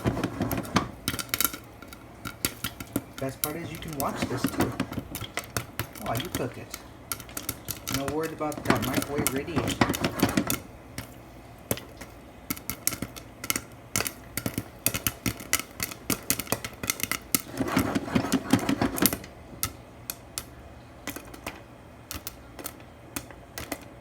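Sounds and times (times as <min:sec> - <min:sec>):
popcorn popping in a pan: 0:00.0 - 0:24.0.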